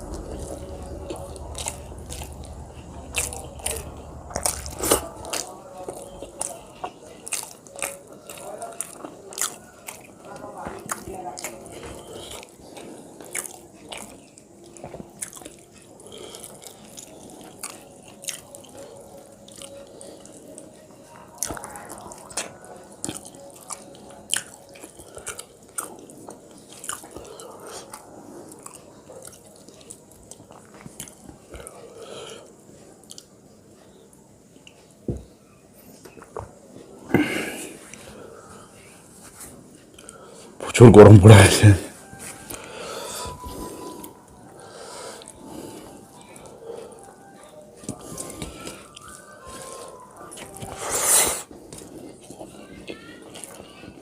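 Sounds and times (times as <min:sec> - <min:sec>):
person chewing crunchy food: 0:00.0 - 0:33.3, 0:42.5 - 0:53.9.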